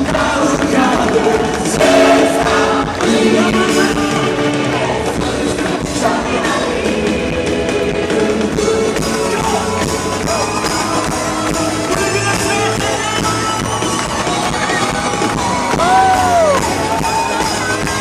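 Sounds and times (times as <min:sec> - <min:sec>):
rock band playing: 0:00.3 - 0:18.0.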